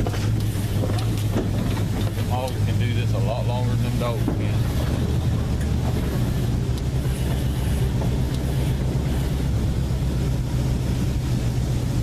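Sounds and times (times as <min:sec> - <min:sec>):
buggy engine running: 0:00.0 - 0:12.0.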